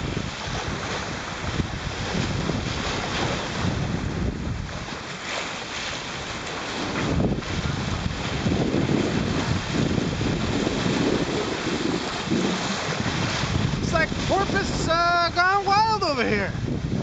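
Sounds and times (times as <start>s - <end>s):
water splashing along boat bow: 0.0s - 17.0s
wind buffeting microphone: 0.0s - 17.0s.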